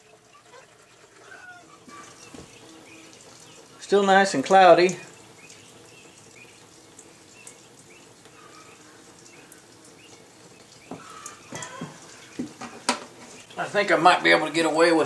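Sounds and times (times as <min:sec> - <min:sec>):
fuel trickling into drain pan: 0:00.0 - 0:15.0.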